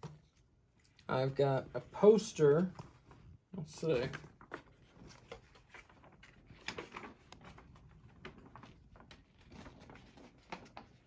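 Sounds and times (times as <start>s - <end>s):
paper poster crinkling: 0.8s - 11.0s.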